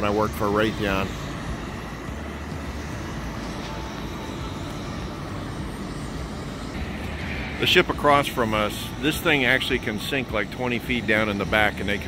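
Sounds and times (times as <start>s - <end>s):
steady low rumble with hiss: 0.0s - 12.0s.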